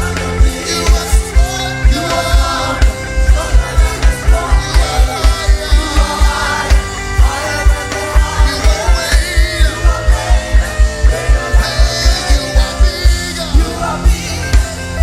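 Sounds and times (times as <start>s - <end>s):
people singing: 0.0s - 15.0s
sustained instruments: 0.0s - 15.0s.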